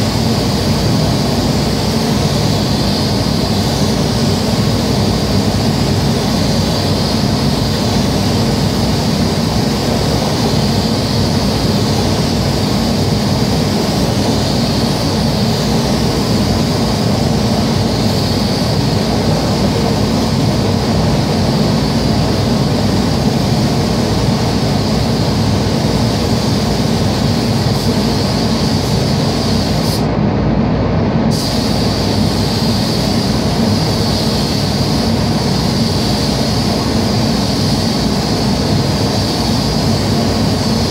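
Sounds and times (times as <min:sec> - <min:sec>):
spray gun hissing: 0:00.0 - 0:30.1, 0:31.3 - 0:40.9
ventilation fans rushing: 0:00.0 - 0:40.9.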